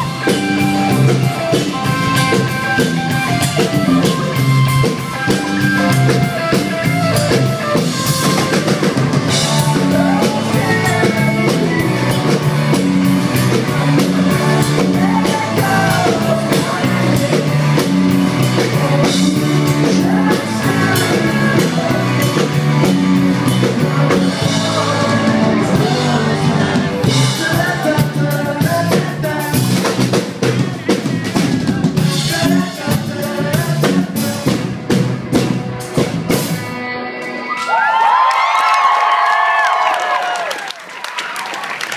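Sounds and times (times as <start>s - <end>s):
drum kit with rimshots: 0.0s - 36.7s
bass line: 0.0s - 37.0s
live funk rock band: 0.0s - 37.6s.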